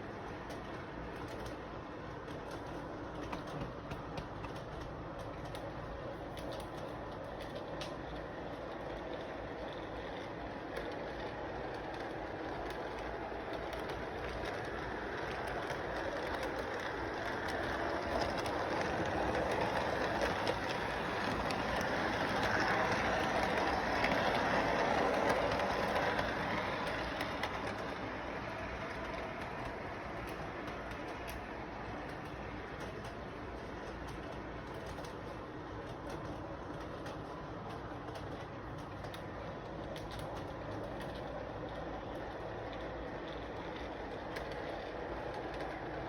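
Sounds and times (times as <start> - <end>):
train rattling on track: 0.0 - 46.0.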